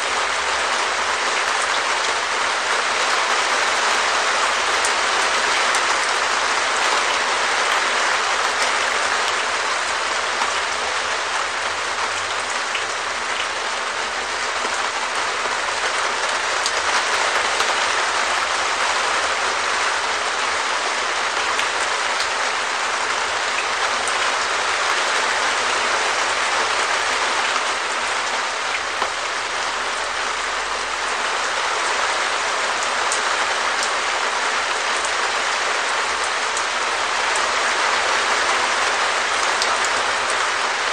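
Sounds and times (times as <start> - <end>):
rain on plastic roof: 0.0 - 40.9.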